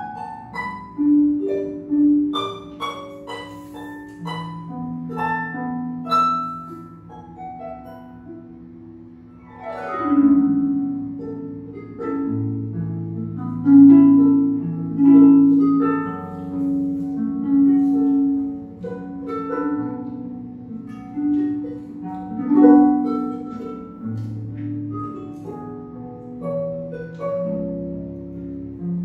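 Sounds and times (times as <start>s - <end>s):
harp playing gentle melody: 0.0s - 29.0s.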